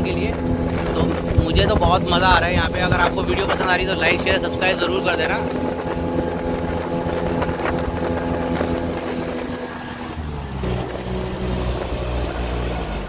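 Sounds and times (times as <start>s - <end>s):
speedboat engine running: 0.0s - 13.0s.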